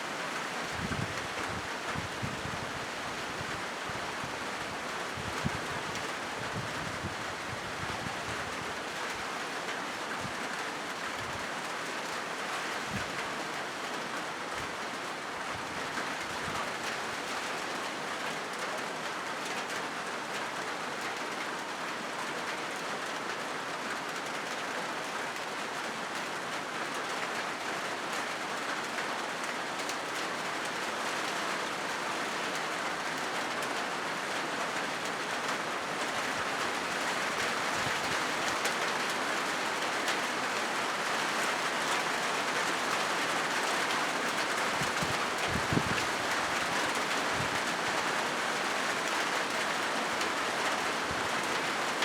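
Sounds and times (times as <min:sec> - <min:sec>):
rain on a metal roof: 0:00.0 - 0:52.0.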